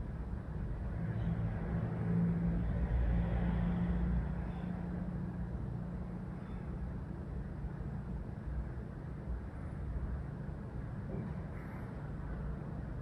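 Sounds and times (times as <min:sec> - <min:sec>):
low mechanical hum and rumble: 0:00.0 - 0:13.0.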